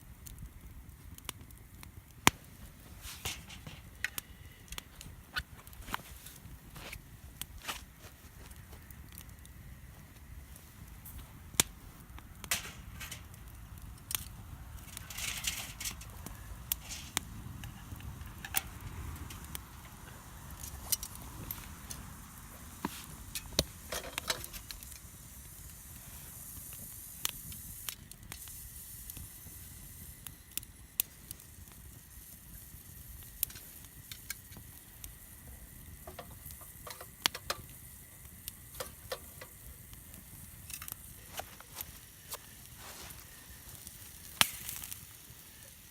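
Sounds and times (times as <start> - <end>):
campfire crackling and popping: 0.0 - 45.9
soft sizzling hiss: 0.0 - 45.9.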